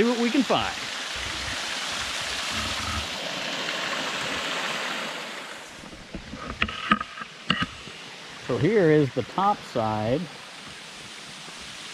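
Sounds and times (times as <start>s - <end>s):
small waterfall rushing: 0.0s - 11.9s.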